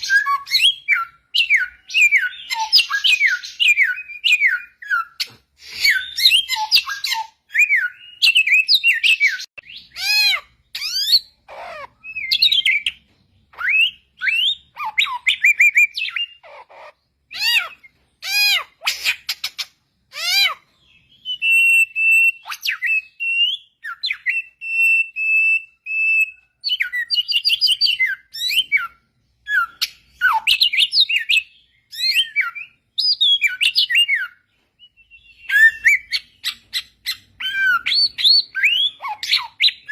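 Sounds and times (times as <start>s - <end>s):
bird singing whistled phrases: 0.0s - 13.0s, 20.2s - 39.9s.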